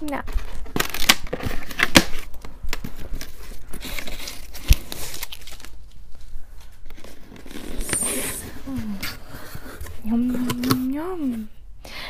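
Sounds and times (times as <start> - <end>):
cardboard box rustling and tearing: 0.3 - 5.8, 6.8 - 11.1.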